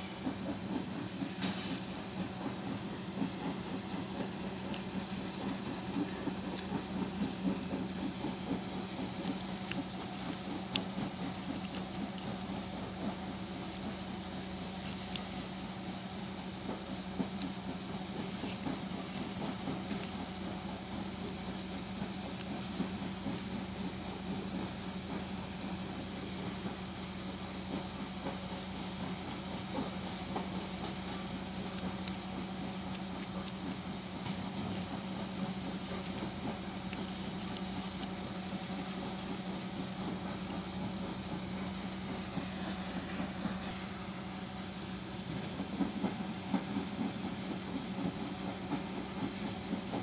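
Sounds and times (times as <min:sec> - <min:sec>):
steady low hum: 0:00.0 - 0:50.0
dry seed pods crackling: 0:00.2 - 0:43.6
seed pod snapping: 0:00.5 - 0:15.8, 0:16.8 - 0:26.9, 0:27.8 - 0:42.8.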